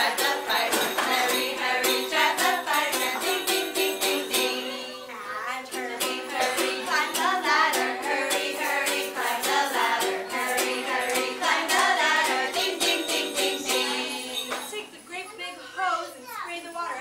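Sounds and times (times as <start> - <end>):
ukulele strumming: 0.0 - 5.0, 5.7 - 14.7
person singing: 0.0 - 14.6.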